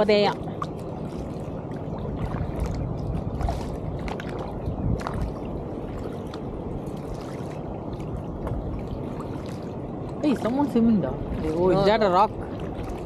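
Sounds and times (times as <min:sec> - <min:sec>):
paddle blades splashing: 0:00.0 - 0:13.0
steady low rumble: 0:00.0 - 0:13.0
water dripping and gurgling: 0:00.0 - 0:13.0.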